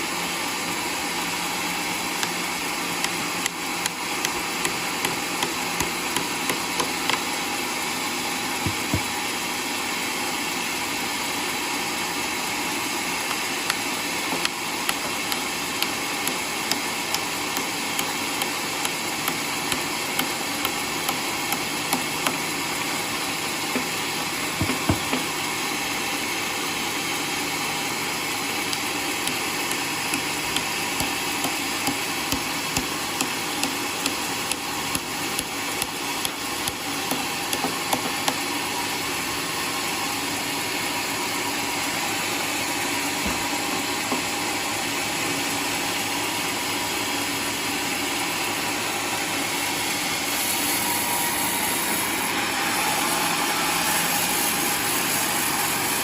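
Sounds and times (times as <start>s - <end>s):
sawmill running: 0.0s - 56.0s.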